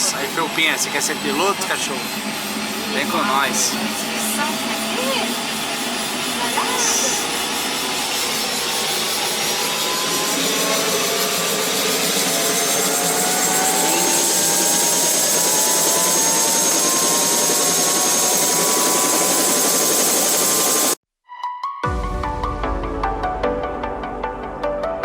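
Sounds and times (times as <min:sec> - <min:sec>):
helicopter engine and rotor: 0:00.0 - 0:21.0
rising turbine whine: 0:00.0 - 0:21.0.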